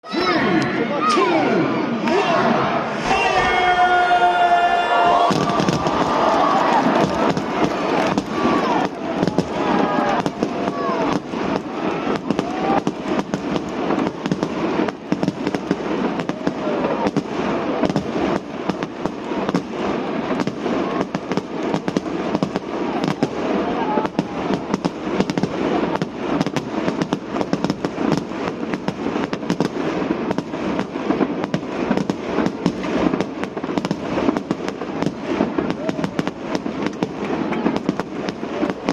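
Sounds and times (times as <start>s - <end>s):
rumble of firework bursts: 2.6s - 38.9s
fireworks popping and crackling: 4.8s - 38.9s.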